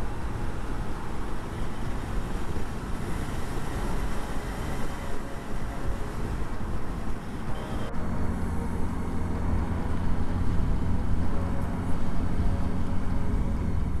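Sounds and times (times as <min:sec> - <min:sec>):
motorcycle engine cruising: 0:00.0 - 0:14.0
road and wind noise: 0:00.0 - 0:14.0.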